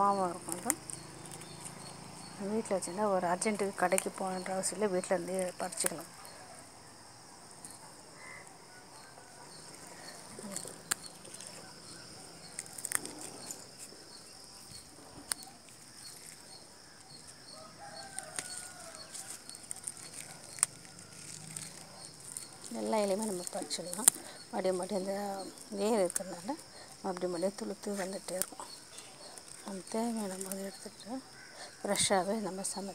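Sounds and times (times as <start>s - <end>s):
stems snapping: 0.0s - 1.9s, 3.6s - 6.4s, 9.7s - 14.0s, 14.7s - 32.2s
faint bird calls: 0.0s - 32.9s
leaves rustling: 0.0s - 32.9s.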